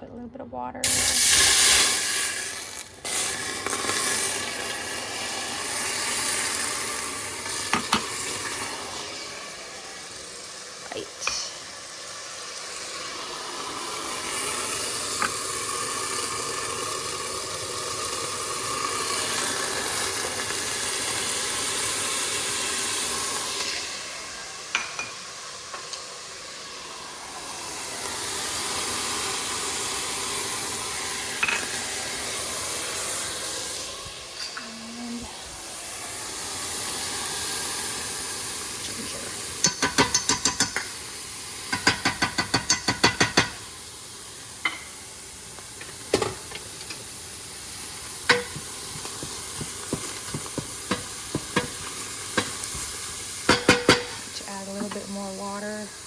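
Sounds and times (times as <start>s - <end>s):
water sizzling in a hot pot: 0.8s - 56.0s.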